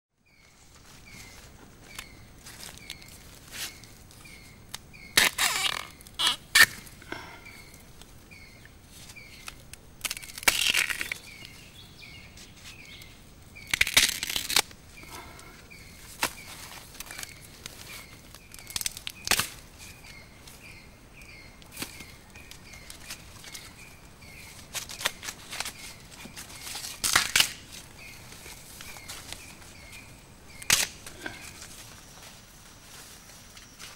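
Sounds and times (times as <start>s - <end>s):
bamboo rustling and cracking: 0.3s - 33.9s.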